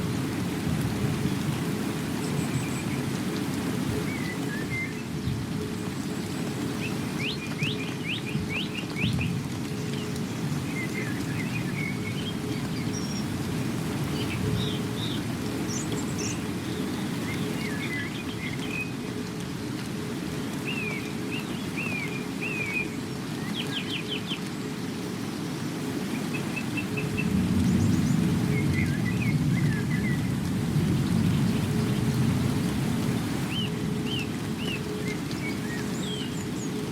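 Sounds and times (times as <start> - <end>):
rain rushing: 0.0 - 36.9
songbirds chirping: 0.9 - 36.9.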